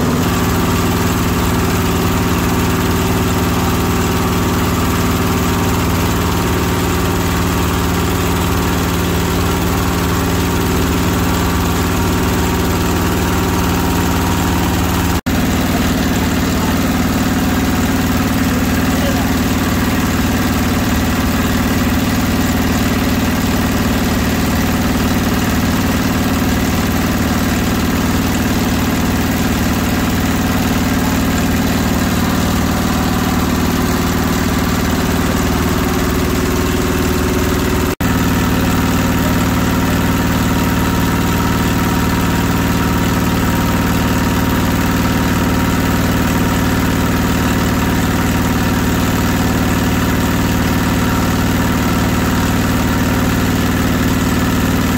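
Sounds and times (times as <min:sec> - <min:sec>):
electric meat grinder drone: 0:00.0 - 0:54.9.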